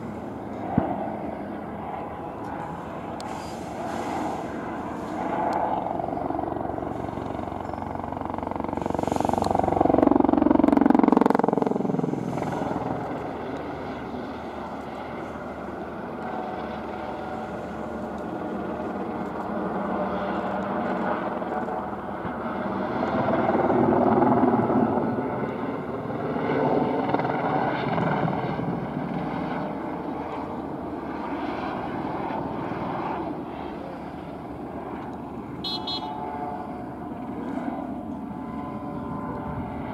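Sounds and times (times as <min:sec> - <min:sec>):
helicopter flying past: 0:00.0 - 0:39.9.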